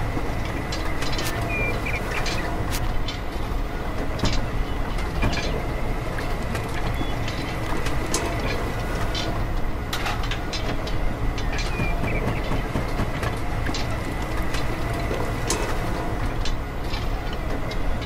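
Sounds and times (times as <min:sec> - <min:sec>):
mechanism clicks and rattles: 0:00.0 - 0:18.0.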